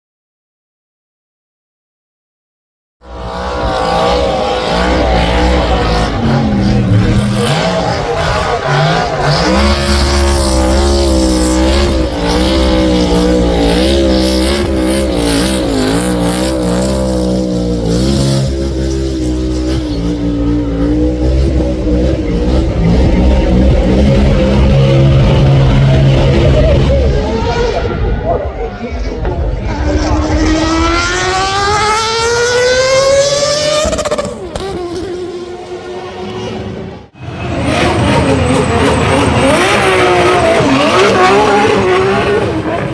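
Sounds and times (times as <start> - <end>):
race car engine revving: 3.0 - 42.9.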